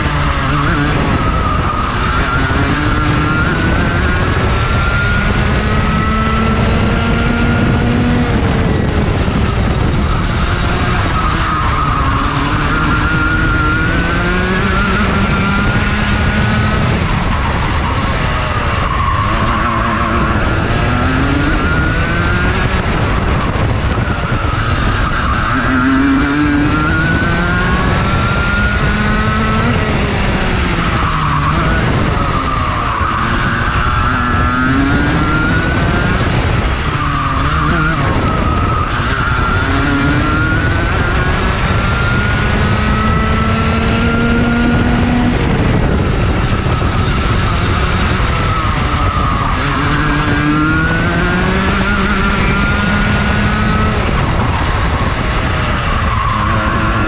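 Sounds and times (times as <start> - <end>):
kart engine revving: 0.0 - 57.0
wind noise: 0.0 - 57.0.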